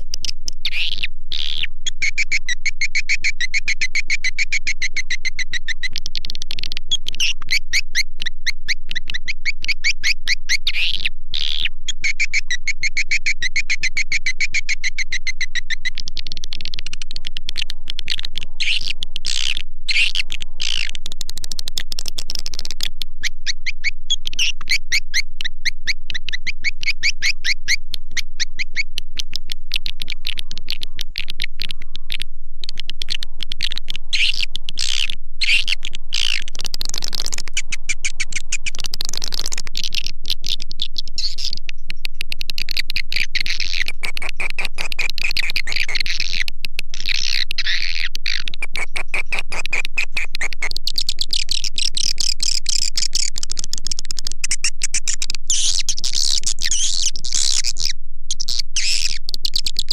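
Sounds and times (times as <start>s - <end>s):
swiftlets twittering and chirping: 0.0s - 59.9s.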